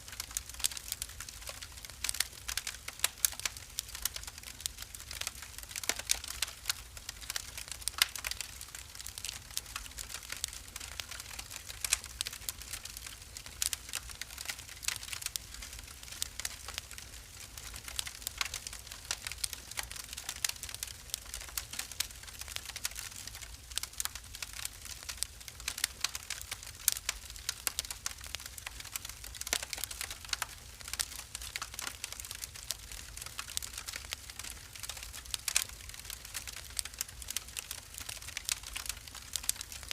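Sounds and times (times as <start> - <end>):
wood fire crackling: 0.0 - 39.9
low rumble of flames: 0.4 - 39.9.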